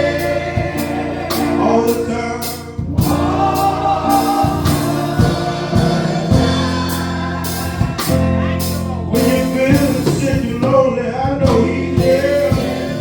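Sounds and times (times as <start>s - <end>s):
choir singing: 0.0s - 10.7s, 11.8s - 13.0s
bass: 0.0s - 13.0s
drum kit beat: 0.0s - 13.0s
organ or keyboard: 0.0s - 13.0s.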